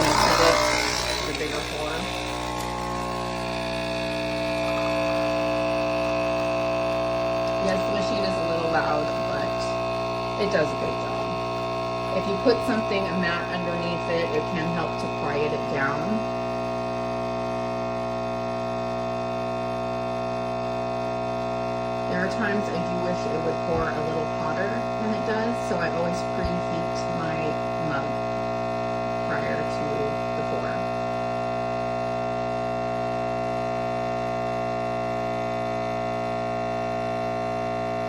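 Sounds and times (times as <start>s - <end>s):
coffee machine pump buzzing: 0.0s - 38.0s.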